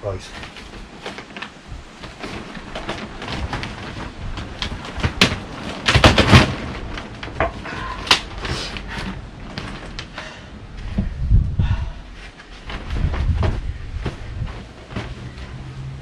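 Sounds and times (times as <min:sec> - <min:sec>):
rustling: 0:00.0 - 0:11.3, 0:12.0 - 0:16.0
irregular knocks and clattering: 0:00.3 - 0:10.2, 0:12.6 - 0:15.7
heavy thumps: 0:00.4 - 0:15.6.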